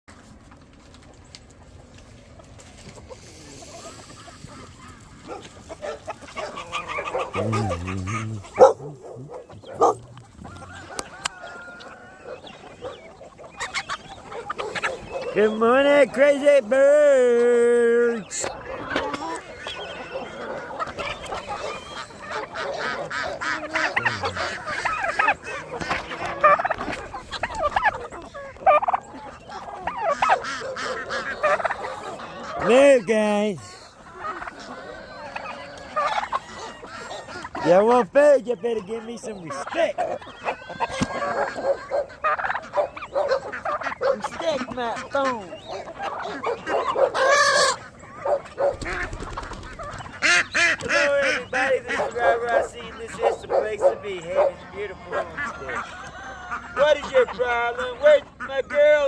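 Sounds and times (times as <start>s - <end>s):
poultry calling: 1.0s - 59.0s.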